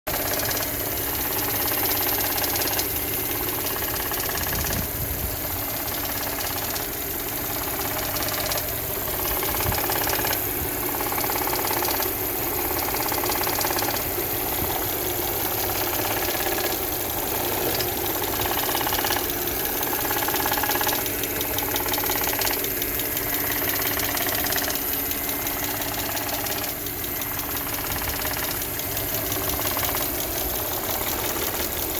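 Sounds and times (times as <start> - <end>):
ticking from engine: 0.0 - 31.9
car engine idling: 0.1 - 31.9.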